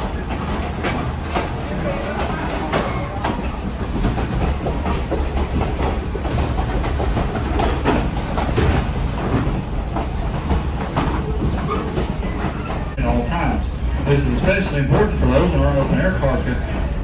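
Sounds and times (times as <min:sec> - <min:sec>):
train rumbling: 0:00.0 - 0:17.0
train wheels clacking: 0:00.0 - 0:17.0.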